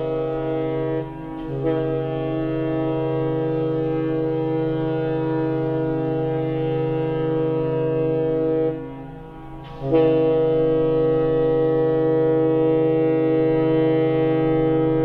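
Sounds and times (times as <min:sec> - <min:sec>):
ship's horn deep blast: 0:00.0 - 0:15.0.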